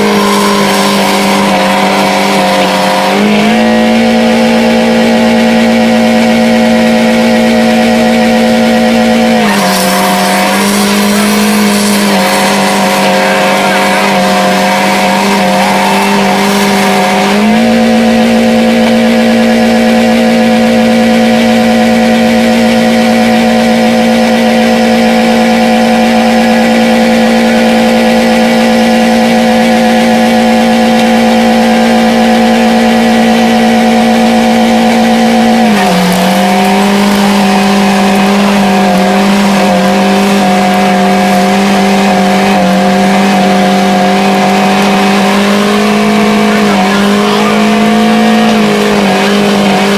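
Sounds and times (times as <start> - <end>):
car engine at high revs: 0.0 - 49.9.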